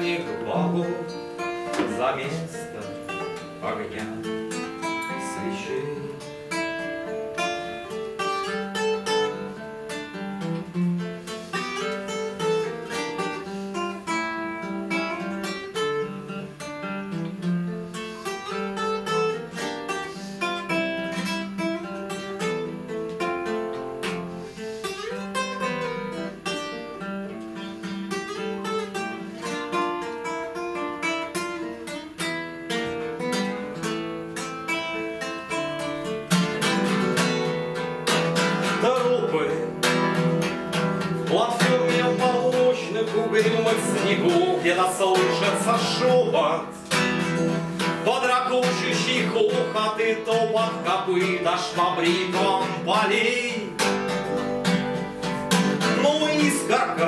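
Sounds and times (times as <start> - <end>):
classical acoustic guitar playing: 0.0 - 57.0.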